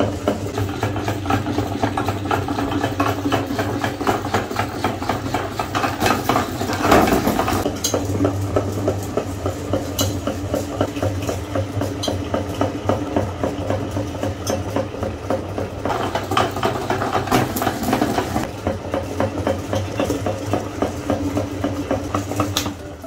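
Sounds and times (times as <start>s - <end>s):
meat grinder motor humming: 0.0s - 23.0s.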